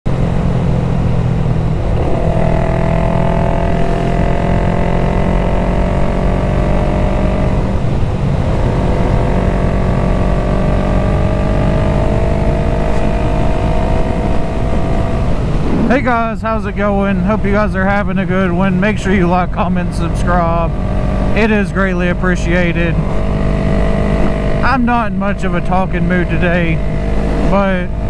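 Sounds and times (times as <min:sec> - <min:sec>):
motorcycle engine running: 0:00.1 - 0:28.0.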